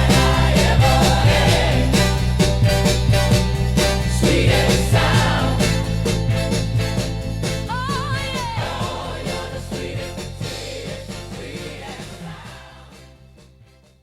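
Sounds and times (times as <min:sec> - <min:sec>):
soul song with full band: 0:00.0 - 0:13.0.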